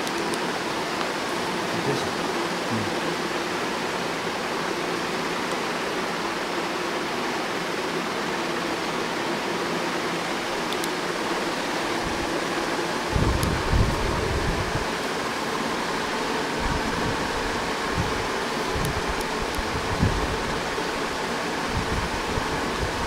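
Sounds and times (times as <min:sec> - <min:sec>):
room noise hiss: 0:00.0 - 0:23.0.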